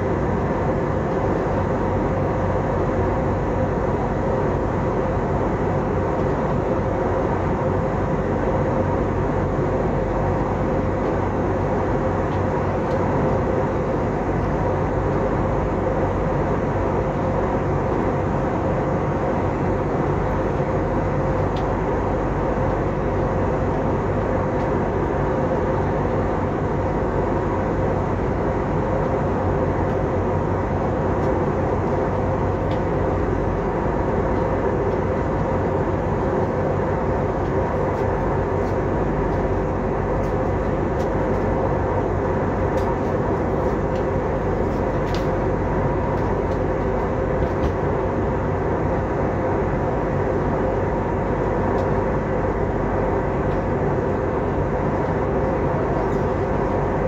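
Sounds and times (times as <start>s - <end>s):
steady cabin hum: 0.0s - 57.0s.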